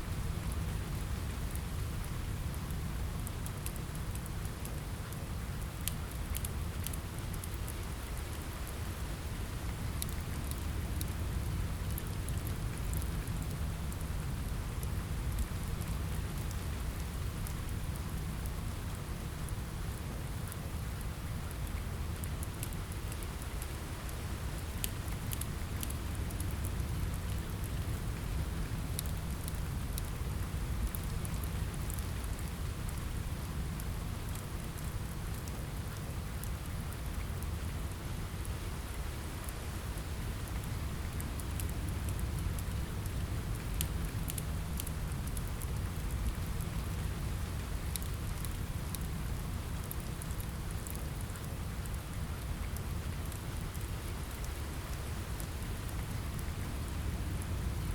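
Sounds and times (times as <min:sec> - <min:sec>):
rain pattering on a window: 0:00.0 - 0:57.9
wood fire crackling: 0:00.2 - 0:57.9.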